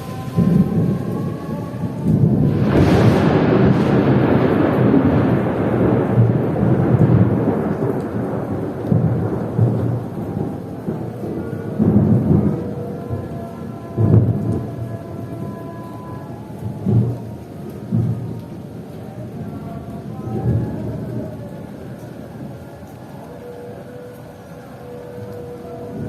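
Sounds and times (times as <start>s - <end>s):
thunder rolling: 0.0s - 22.8s
heavy rain: 0.0s - 26.0s.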